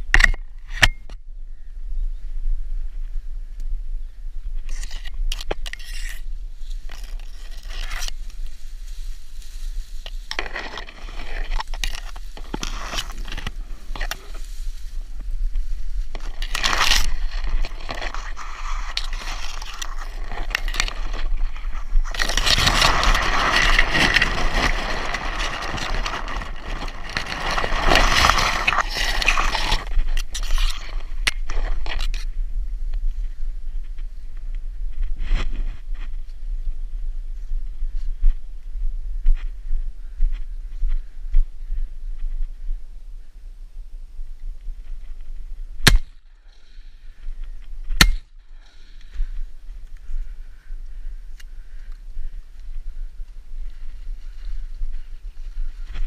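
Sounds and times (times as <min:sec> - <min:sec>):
rustling through dry grass: 0:02.8 - 0:56.0.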